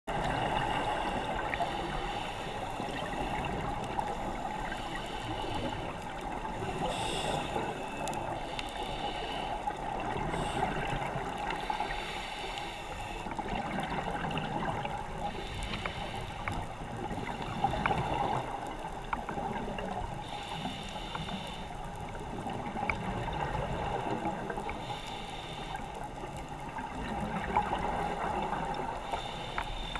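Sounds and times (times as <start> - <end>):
exhaled bubbles gurgling: 0.1 - 12.2, 13.2 - 20.4, 21.8 - 25.0, 26.2 - 29.3
diver regulator breathing: 0.1 - 29.9
faint clicks: 0.2 - 29.9.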